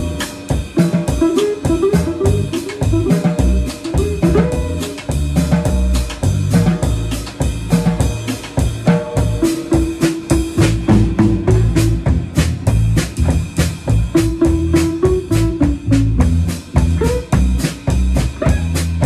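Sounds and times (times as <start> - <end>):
drum kit beat: 0.0 - 19.0
live band playing: 0.0 - 19.0.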